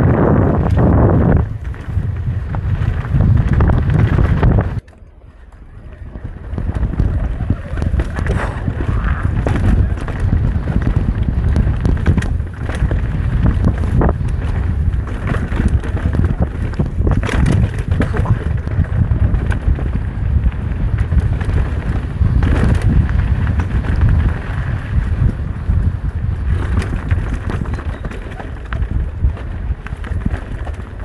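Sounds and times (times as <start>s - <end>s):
bike knocks and rattles: 0.0s - 5.1s, 5.8s - 31.0s
bike tyre rumble on dirt: 0.0s - 31.0s
wind buffeting the microphone: 0.0s - 31.0s.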